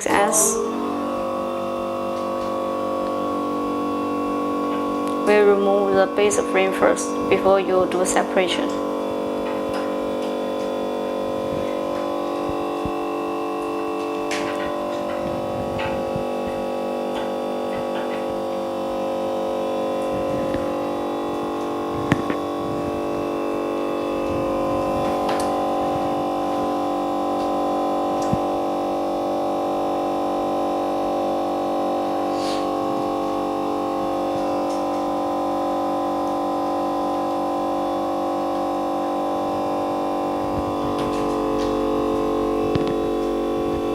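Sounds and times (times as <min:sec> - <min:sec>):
droning hum: 0:00.0 - 0:43.9.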